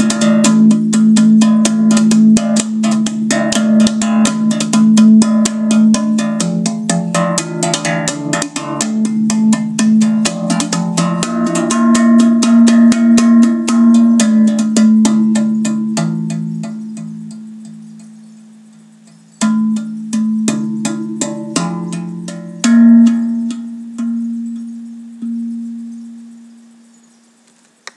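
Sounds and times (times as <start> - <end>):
steel tongue drum notes: 0.0 - 27.4.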